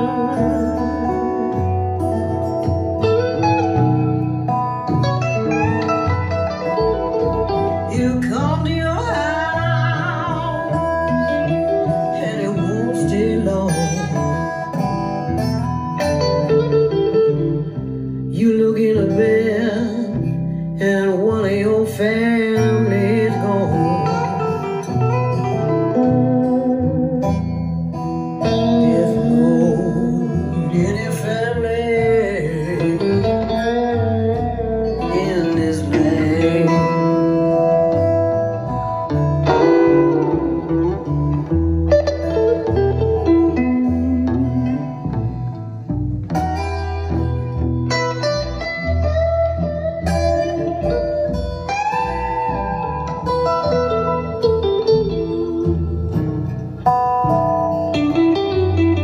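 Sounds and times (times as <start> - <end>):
music with guitar and singing: 0.0 - 59.0.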